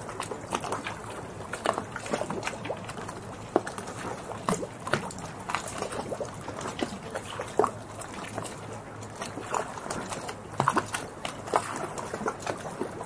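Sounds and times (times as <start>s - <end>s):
water splashes and plops: 0.0s - 13.0s
waves lapping: 0.0s - 13.0s.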